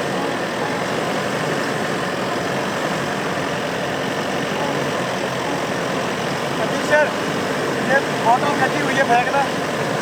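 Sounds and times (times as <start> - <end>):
diesel engine running at low speed: 0.0 - 10.0.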